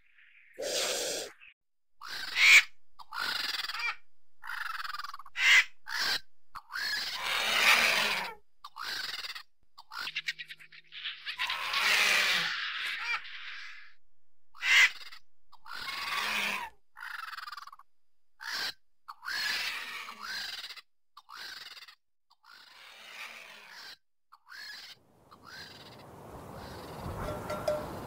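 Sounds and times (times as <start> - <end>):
vultures calling harshly: 2.0 - 27.8.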